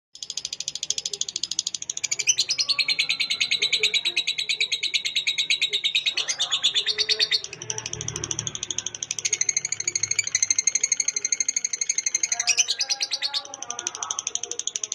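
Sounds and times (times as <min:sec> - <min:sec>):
lovebird chattering trill: 0:00.2 - 0:14.9.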